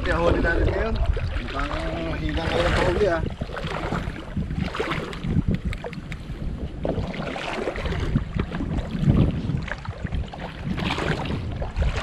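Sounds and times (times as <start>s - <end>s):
seawater sloshing and splashing: 0.0s - 12.0s
wind buffeting microphone: 0.0s - 12.0s.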